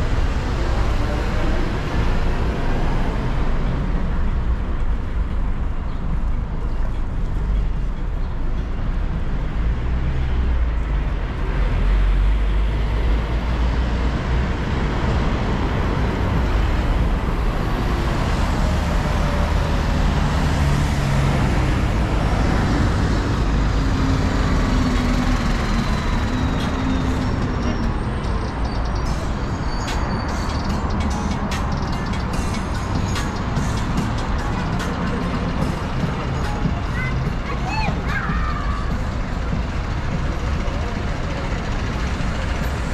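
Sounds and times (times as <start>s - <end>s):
bus engines running: 0.0s - 42.9s
rumble of passing vehicles: 0.0s - 42.9s.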